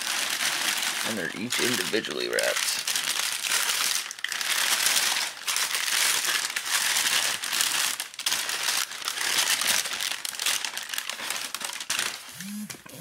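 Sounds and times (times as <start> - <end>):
tissue paper crinkling: 0.0 - 12.3.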